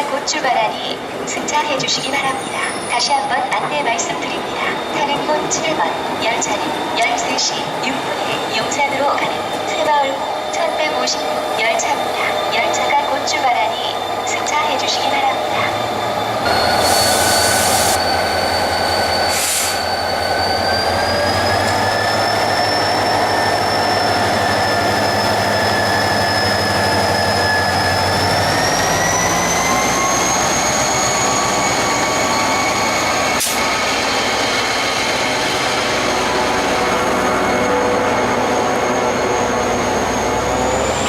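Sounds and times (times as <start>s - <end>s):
train low rumble: 0.0s - 41.0s
train wheels squealing: 1.5s - 41.0s.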